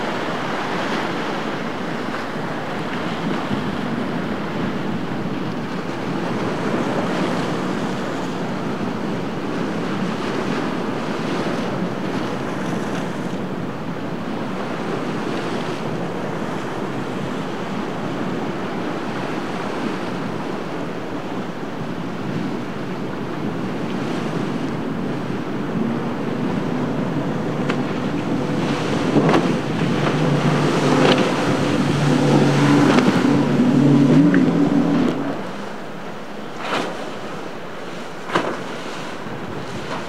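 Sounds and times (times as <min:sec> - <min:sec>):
breaking waves: 0:00.0 - 0:40.0
wind buffeting microphone: 0:00.0 - 0:40.0.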